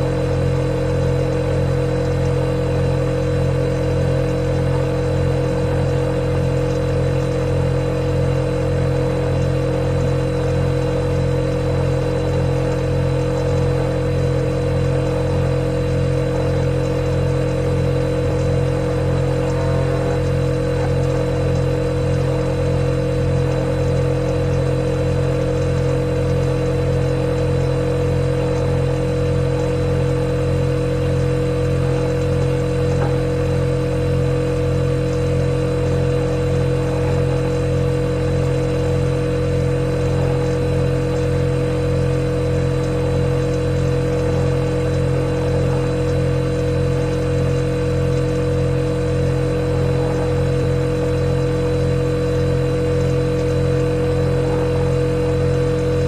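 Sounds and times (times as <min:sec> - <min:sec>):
refrigerator compressor humming: 0:00.0 - 0:56.0.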